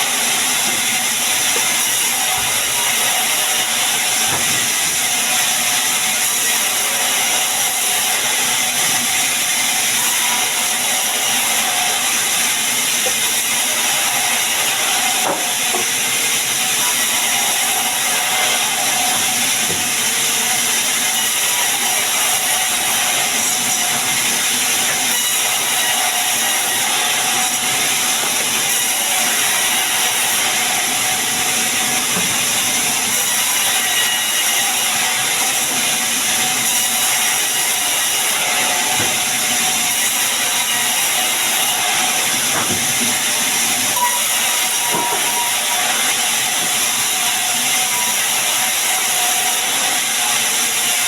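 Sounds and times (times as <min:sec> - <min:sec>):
sawmill saw cutting wood: 0:00.0 - 0:51.0.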